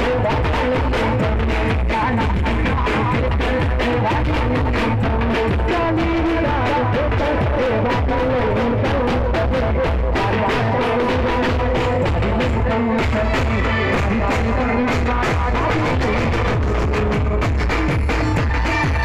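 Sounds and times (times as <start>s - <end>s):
drum kit fast beat: 0.0s - 19.0s
live band music: 0.0s - 19.0s.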